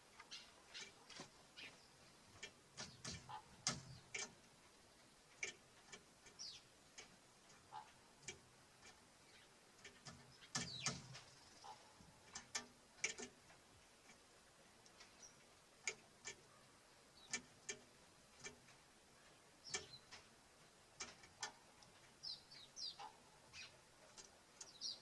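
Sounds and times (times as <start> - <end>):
birds tapping on wooden feeder: 0.0 - 25.0.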